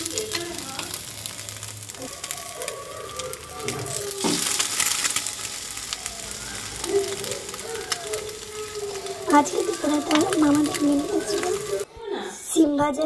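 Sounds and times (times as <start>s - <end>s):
egg sizzling in a pan: 0.0s - 11.8s.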